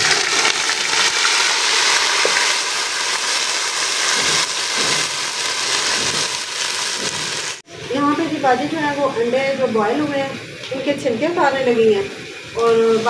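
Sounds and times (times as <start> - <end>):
onion paste sizzling in oil: 0.0 - 13.0.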